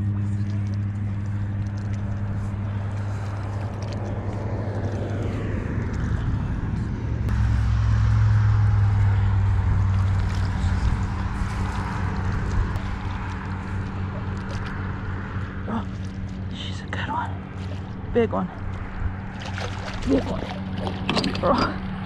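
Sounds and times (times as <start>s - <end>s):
water noise: 0.0s - 16.5s, 17.3s - 22.0s
low motor hum: 0.0s - 22.0s
wind: 0.0s - 22.0s.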